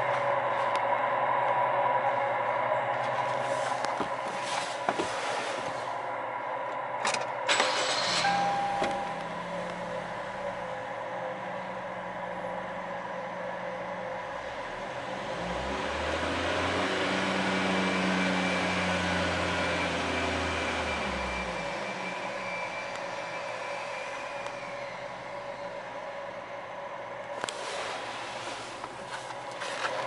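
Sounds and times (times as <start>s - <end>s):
minivan engine idling and revving: 0.0s - 30.0s.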